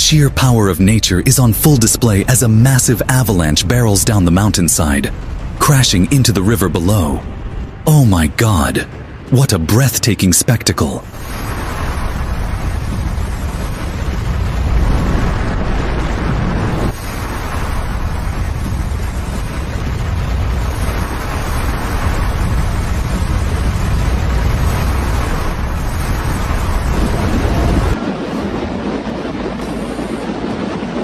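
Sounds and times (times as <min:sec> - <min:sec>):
avalanche rumbling roar: 0:00.0 - 0:10.0, 0:11.0 - 0:31.0.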